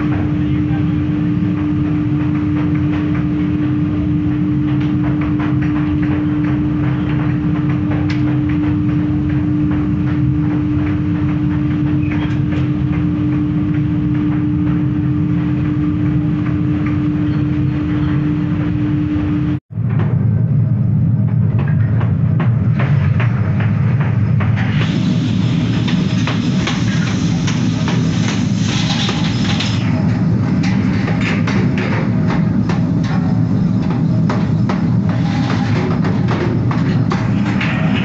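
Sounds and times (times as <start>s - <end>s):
furnace motor humming: 0.0s - 38.0s
low rumble: 0.0s - 38.0s.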